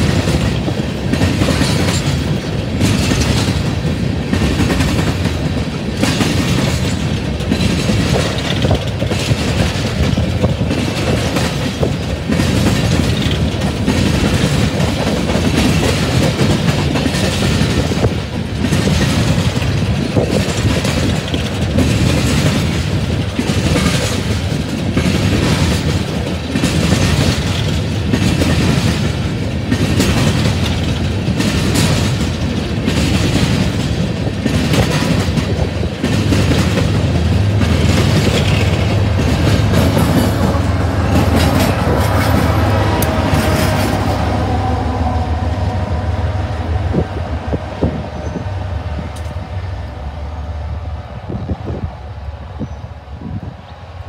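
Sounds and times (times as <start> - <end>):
train cars clattering over rail joints: 0.0 - 49.6
diesel locomotive engine rumble: 0.0 - 54.0.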